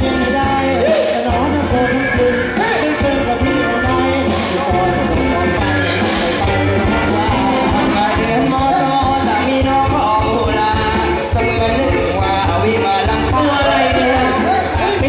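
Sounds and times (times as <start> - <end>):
drums steady beat: 0.0 - 15.0
live band music: 0.0 - 15.0
man singing: 0.0 - 15.0.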